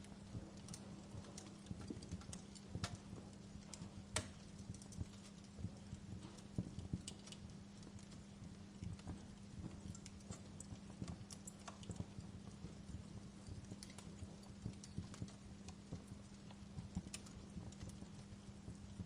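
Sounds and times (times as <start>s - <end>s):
low steady hum: 0.0s - 19.0s
wood fire crackling: 0.0s - 19.0s.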